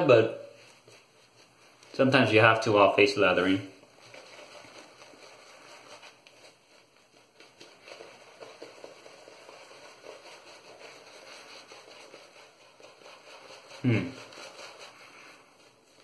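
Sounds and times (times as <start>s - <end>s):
shaving brush swishing lather: 0.3s - 16.0s.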